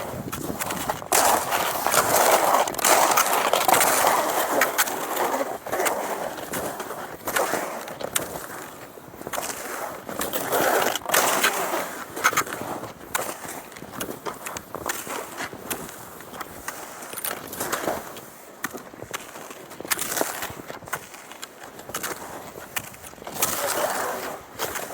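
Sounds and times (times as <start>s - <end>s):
skis scraping over snow: 0.0s - 24.9s.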